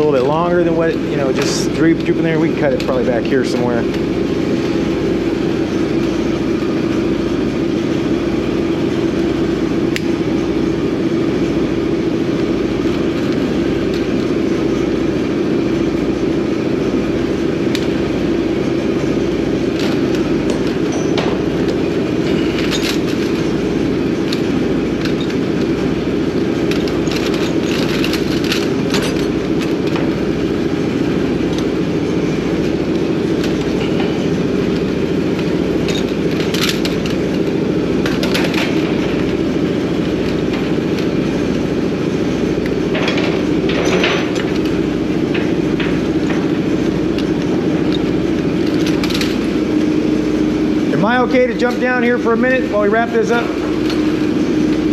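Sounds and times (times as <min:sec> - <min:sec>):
engine running drone: 0:00.0 - 0:54.9.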